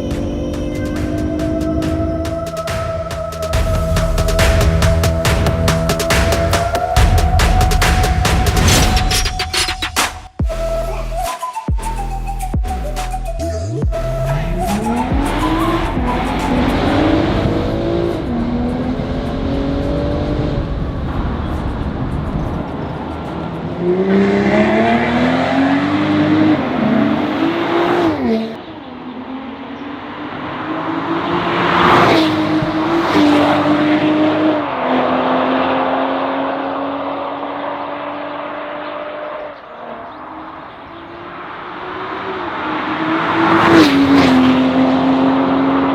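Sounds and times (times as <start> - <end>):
car engine accelerating: 0.0 - 9.7, 12.4 - 45.9.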